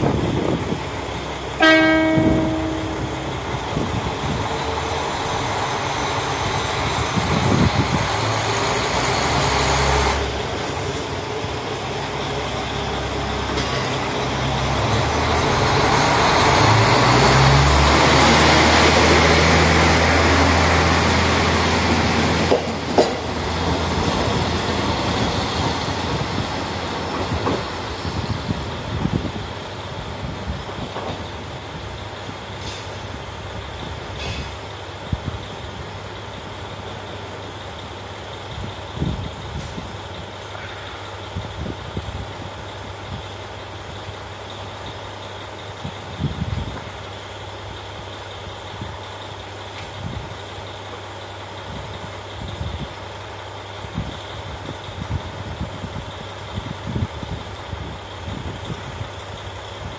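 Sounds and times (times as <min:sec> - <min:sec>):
diesel railcar engine revving: 0:00.0 - 0:59.9.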